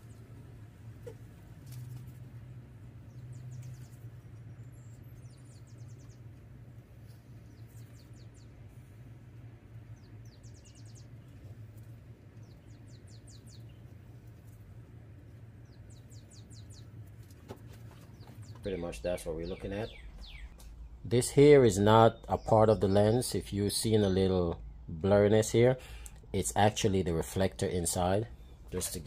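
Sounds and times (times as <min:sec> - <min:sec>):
bird chirping trills: 0:00.0 - 0:29.0
steady low hum: 0:00.0 - 0:29.0.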